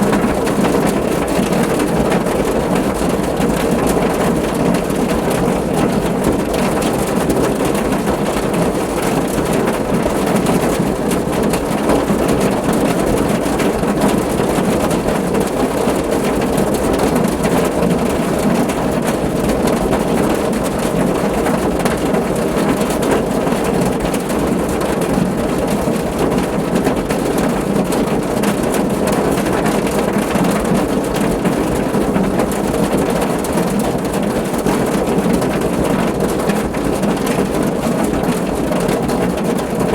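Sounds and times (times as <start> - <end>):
heavy rain on a car roof: 0.0 - 39.9.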